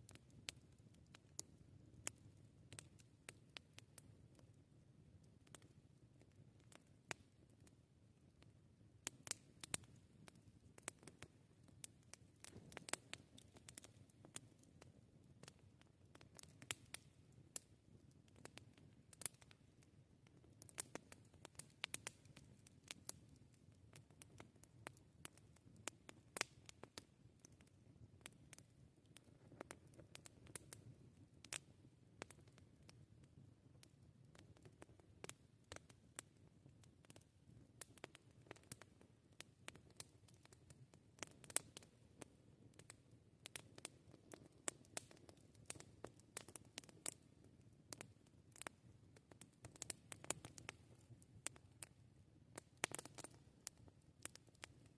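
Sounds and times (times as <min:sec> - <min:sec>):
faint hiss of burning fire: 0:00.0 - 0:54.9
campfire pops and snaps: 0:00.1 - 0:04.5, 0:05.3 - 0:07.7, 0:09.0 - 0:32.9, 0:33.8 - 0:47.2, 0:47.9 - 0:54.9.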